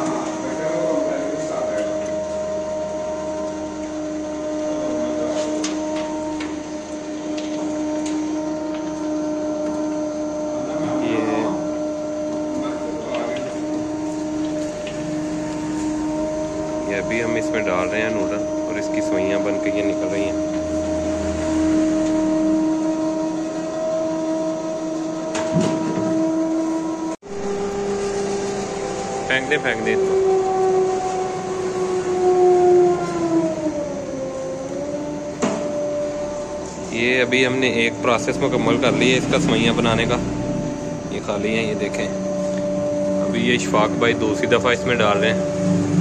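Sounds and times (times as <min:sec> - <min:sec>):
electric motor hum: 0:00.0 - 0:46.0.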